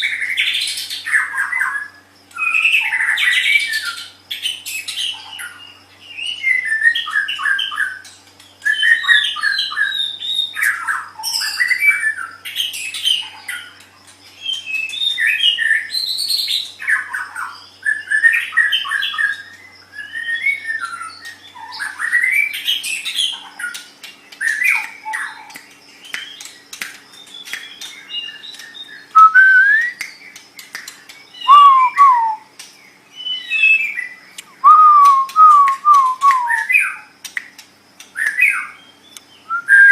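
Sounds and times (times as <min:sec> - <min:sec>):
bird singing whistles and chirps: 0:00.0 - 0:37.1, 0:38.1 - 0:39.9.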